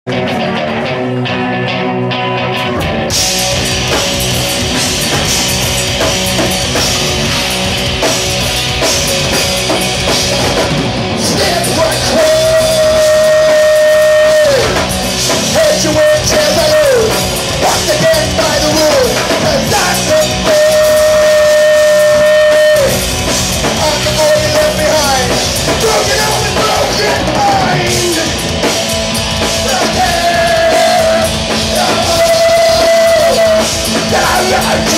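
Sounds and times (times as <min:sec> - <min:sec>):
rock band playing: 0:00.1 - 0:34.9.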